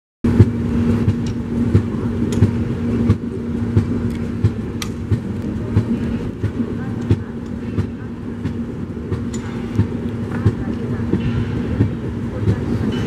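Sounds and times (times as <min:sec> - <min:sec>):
train coach rumbling: 0:00.2 - 0:13.0.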